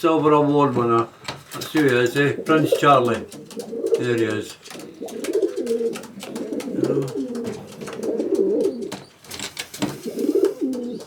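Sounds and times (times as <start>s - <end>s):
pigeons cooing: 2.1s - 11.0s.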